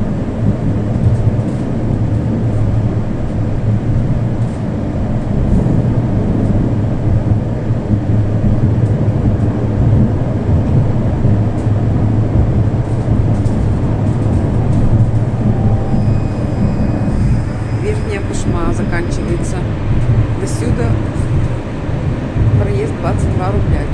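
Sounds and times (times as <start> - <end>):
tram running noise: 0.0 - 23.9.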